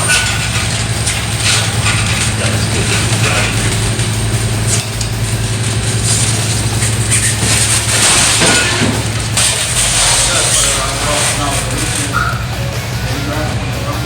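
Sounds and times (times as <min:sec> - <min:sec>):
metallic rattling and clatter: 0:00.0 - 0:13.4
truck idling: 0:00.0 - 0:14.0.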